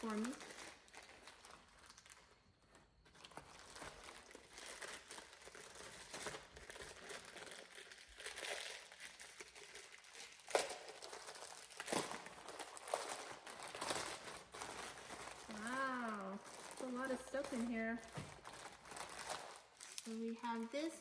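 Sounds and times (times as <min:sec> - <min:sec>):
packaging crinkling and rustling: 0:00.0 - 0:21.0
packaging ripping: 0:00.0 - 0:21.0.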